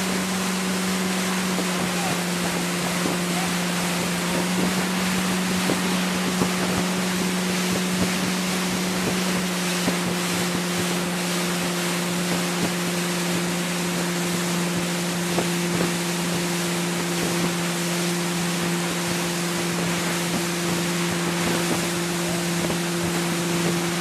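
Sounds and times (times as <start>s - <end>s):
wind on microphone: 0.0s - 16.4s, 18.4s - 24.0s
motorboat engine running: 0.0s - 24.0s
water rushing past: 0.0s - 24.0s.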